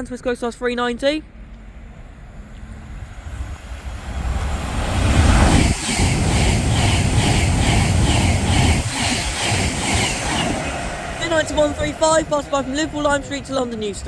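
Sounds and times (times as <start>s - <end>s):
electric train passing: 1.4s - 14.0s.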